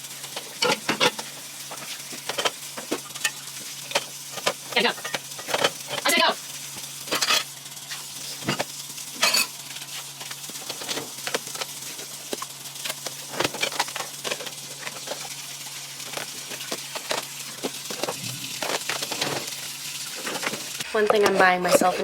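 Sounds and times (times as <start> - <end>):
kitchen items and packaging rustling: 0.0 - 22.0.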